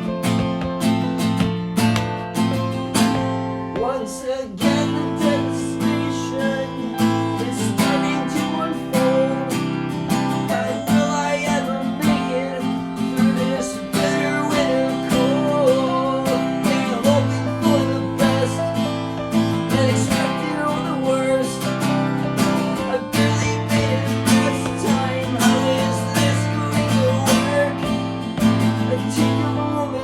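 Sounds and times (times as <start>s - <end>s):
strummed acoustic guitar chords: 0.0s - 30.0s.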